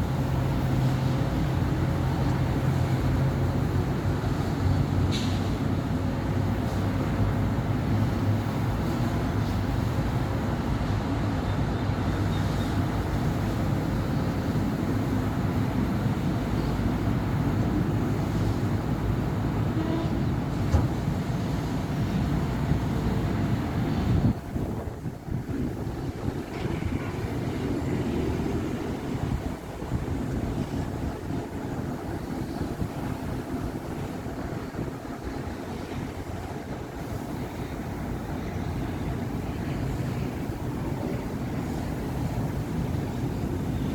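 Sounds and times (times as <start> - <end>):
traffic passing: 0.0 - 43.9.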